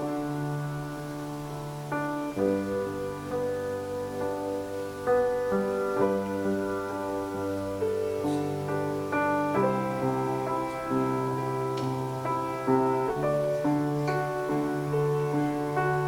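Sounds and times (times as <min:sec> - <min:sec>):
keyboard playing slow chords: 0:00.0 - 0:16.0.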